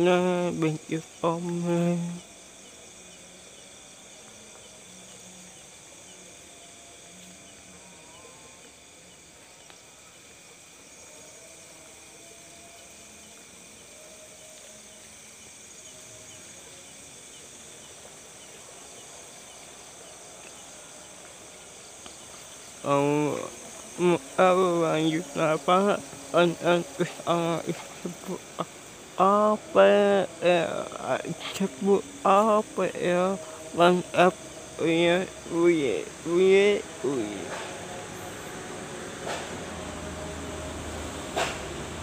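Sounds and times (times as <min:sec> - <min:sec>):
crickets and insects trilling: 0:00.0 - 0:42.0.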